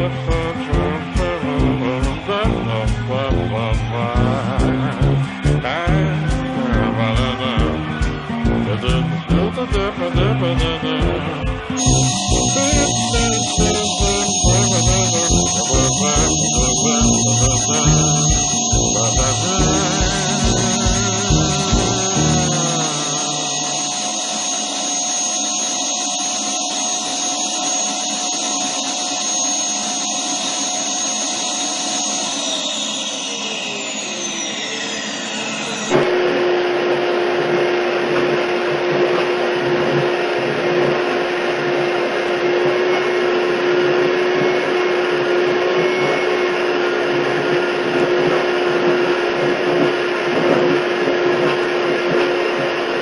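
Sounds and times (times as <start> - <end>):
vacuum cleaner winding down: 0.0 - 53.0.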